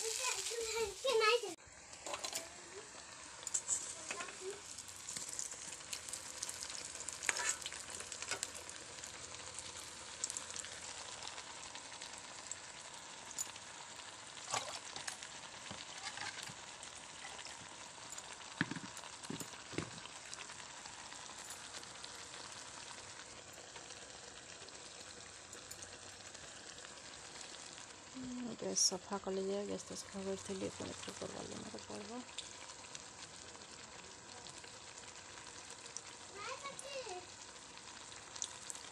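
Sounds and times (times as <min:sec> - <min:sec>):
food sizzling in oil: 0:00.0 - 0:38.9.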